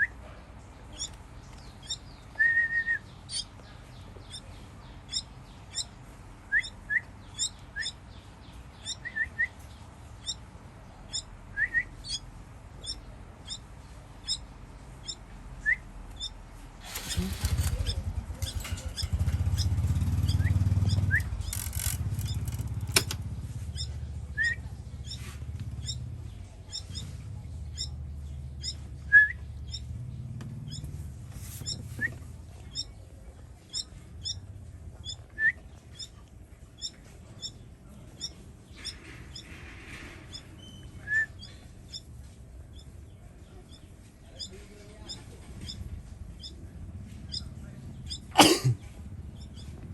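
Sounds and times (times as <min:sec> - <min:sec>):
baby birds peeping: 0:00.0 - 0:49.9.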